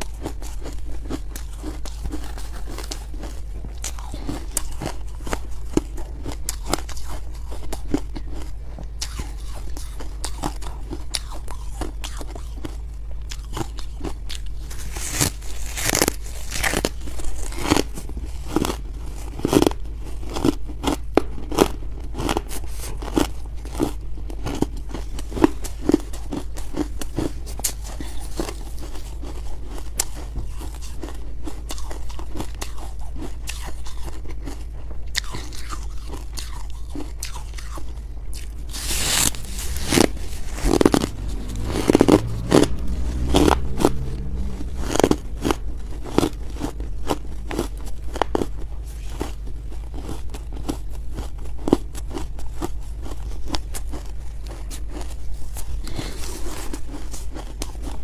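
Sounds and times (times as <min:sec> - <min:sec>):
chewing crunchy frost: 0:00.0 - 0:58.0
low steady hum: 0:00.0 - 0:58.0.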